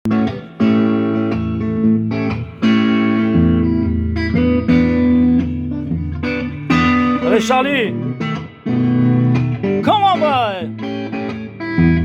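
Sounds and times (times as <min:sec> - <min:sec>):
clean electric guitar blues: 0:00.1 - 0:11.0.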